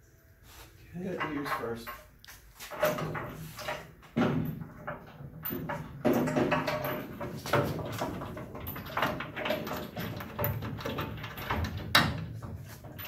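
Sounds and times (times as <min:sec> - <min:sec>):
metal knocks and scrapes: 0:01.0 - 0:13.0.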